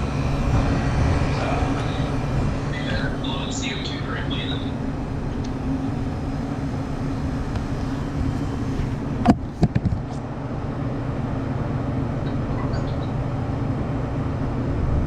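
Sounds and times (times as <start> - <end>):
condensing unit humming: 0.0 - 15.0.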